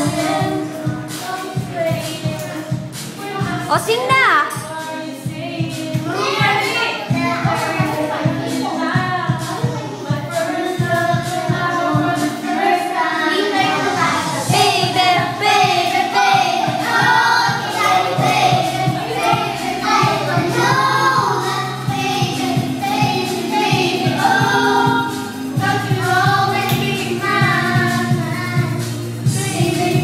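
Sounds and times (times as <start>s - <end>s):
children singing: 0.0s - 3.7s, 4.7s - 30.0s
karaoke backing track: 0.0s - 30.0s.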